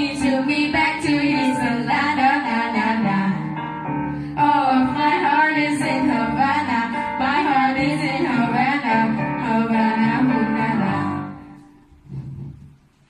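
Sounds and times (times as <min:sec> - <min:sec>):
girls singing pop song: 0:00.0 - 0:03.6, 0:04.4 - 0:11.6
backing music: 0:00.0 - 0:13.0.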